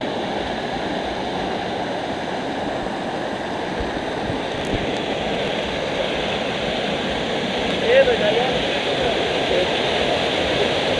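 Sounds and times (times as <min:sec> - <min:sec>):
waterfall: 0:00.0 - 0:10.9.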